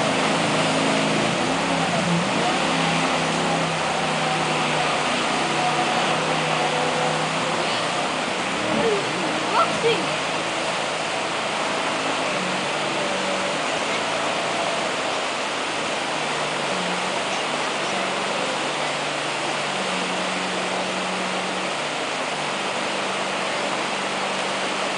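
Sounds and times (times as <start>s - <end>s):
boat engine hum: 0.0s - 24.9s
whitewater rapids rushing: 0.0s - 24.9s.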